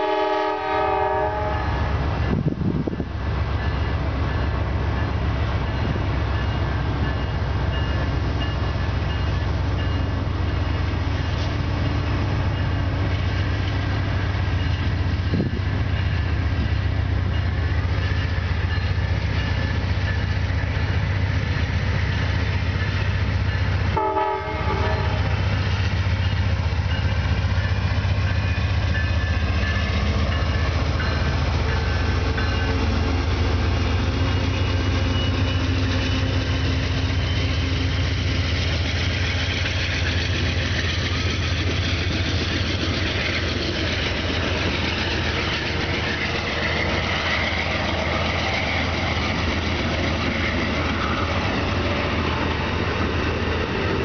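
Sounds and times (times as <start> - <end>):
diesel locomotive engine droning: 0.0 - 54.0.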